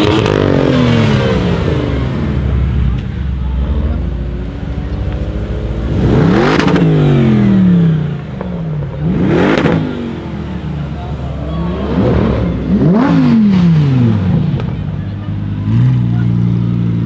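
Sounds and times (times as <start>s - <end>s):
sports car engines revving: 0.0s - 17.0s.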